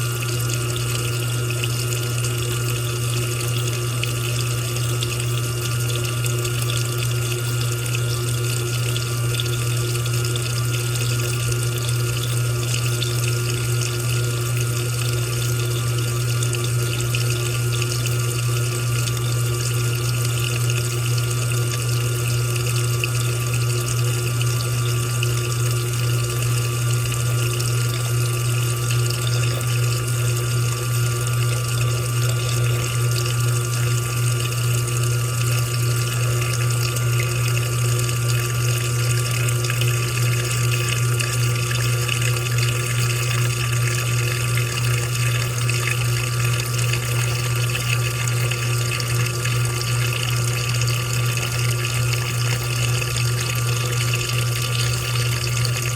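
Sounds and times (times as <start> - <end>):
washing machine hum: 0.0 - 55.9.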